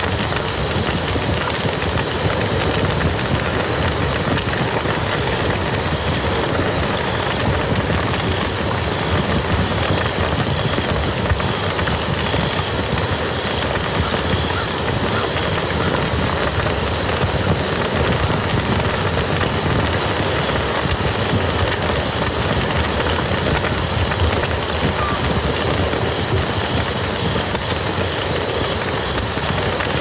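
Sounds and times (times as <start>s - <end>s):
river rushing: 0.0s - 30.0s
wood fire crackling: 0.0s - 30.0s.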